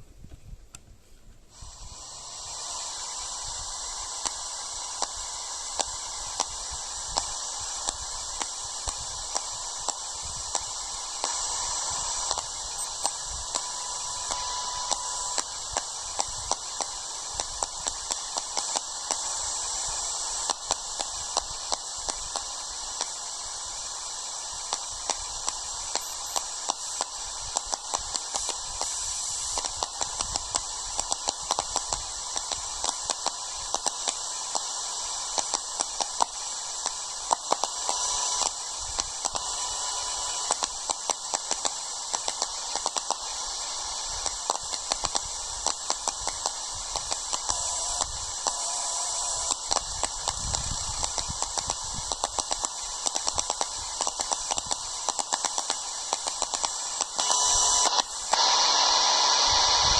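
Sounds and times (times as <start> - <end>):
radio static hiss: 0.9 - 59.9
crackling clicks: 3.5 - 58.9.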